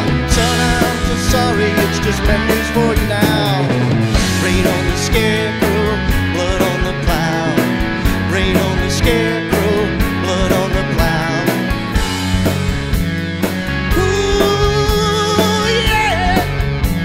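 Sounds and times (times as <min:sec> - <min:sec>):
country rock band playing: 0:00.0 - 0:17.0
lead guitar with pitch bends: 0:00.0 - 0:17.0.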